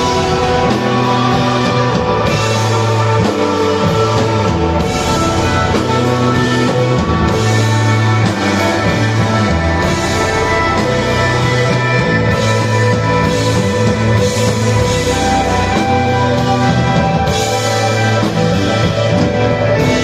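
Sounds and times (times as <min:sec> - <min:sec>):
bass guitar: 0:00.0 - 0:20.0
drums and cymbals: 0:00.0 - 0:20.0
electric guitar long tones: 0:00.0 - 0:20.0.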